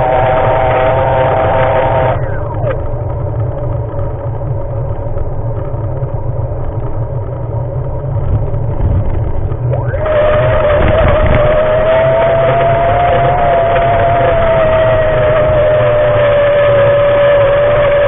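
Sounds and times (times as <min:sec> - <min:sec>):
faint hum: 0:00.0 - 0:18.0
wind rumble on microphone: 0:00.0 - 0:18.0.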